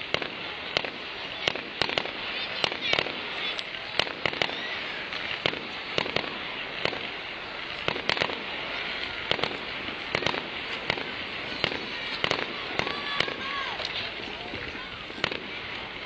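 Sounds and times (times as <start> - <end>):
firework shells bursting: 0.0 - 16.0
fireworks crackling and fizzing: 0.0 - 16.0.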